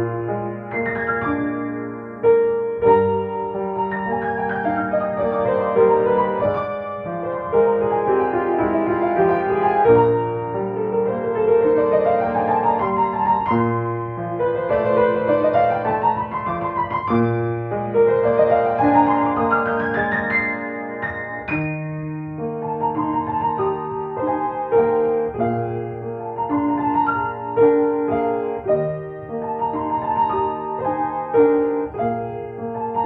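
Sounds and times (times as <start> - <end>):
solo piano melody: 0.0 - 33.0.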